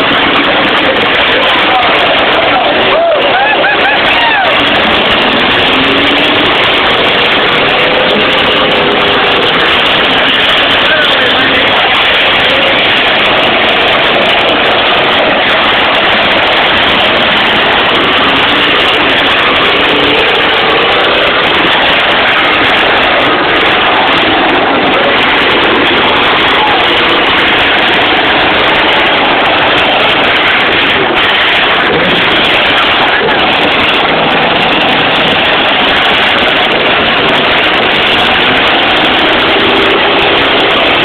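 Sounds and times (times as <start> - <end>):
many car engines revving: 0.0 - 41.0.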